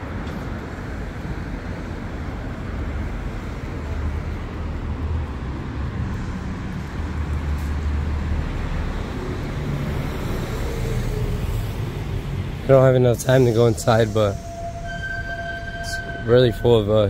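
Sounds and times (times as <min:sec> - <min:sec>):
passing cars rumbling: 0:00.0 - 0:17.0.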